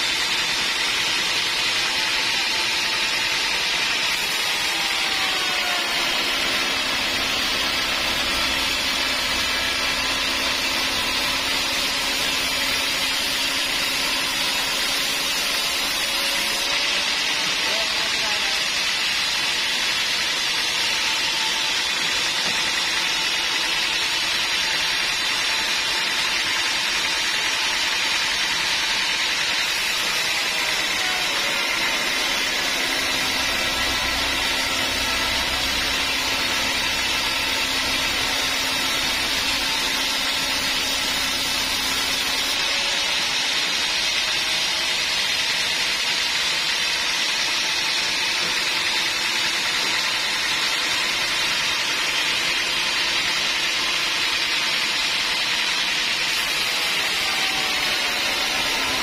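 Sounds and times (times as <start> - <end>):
sawmill saw hissing: 0.0 - 59.0.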